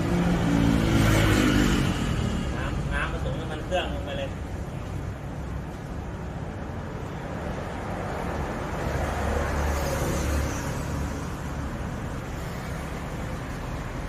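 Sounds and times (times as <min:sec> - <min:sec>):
vehicle rumbling past: 0:00.0 - 0:14.0.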